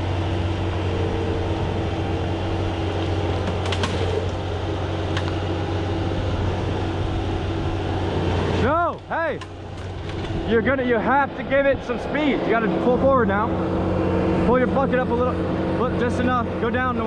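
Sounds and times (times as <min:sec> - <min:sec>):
skid steer engine drone: 0:00.0 - 0:17.0.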